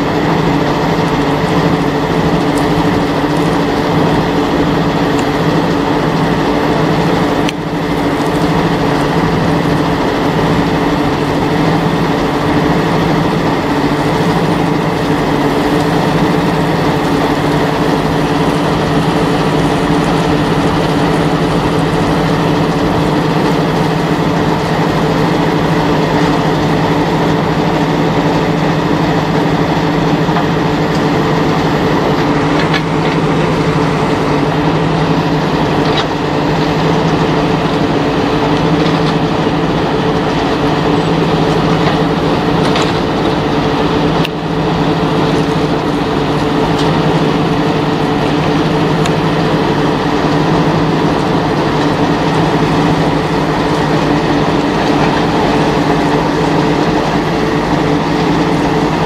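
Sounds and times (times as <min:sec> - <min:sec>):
crusher machine droning: 0:00.0 - 0:59.0.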